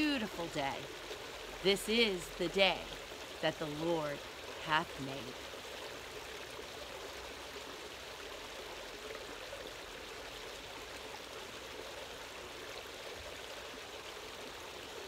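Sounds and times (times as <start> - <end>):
water running over rocks: 0.0 - 15.0.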